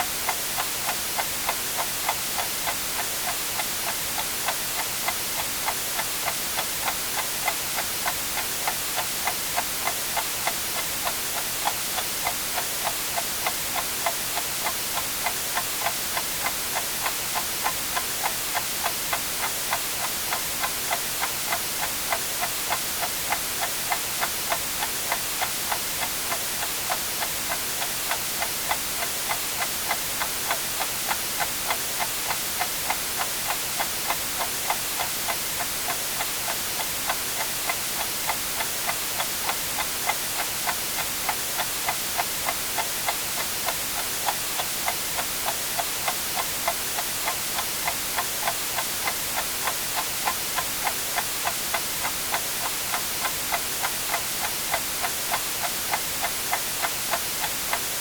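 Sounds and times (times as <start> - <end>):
white noise hiss: 0.0 - 58.0
clock ticking: 0.3 - 58.0.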